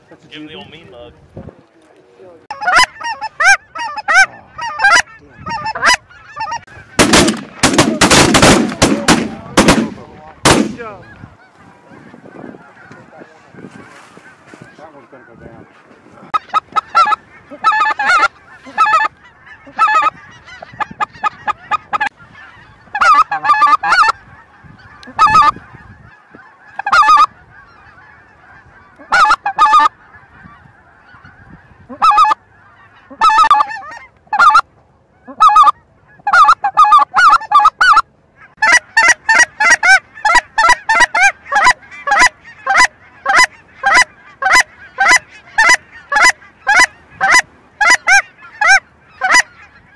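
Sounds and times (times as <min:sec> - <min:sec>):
geese honking: 0:00.0 - 0:49.9.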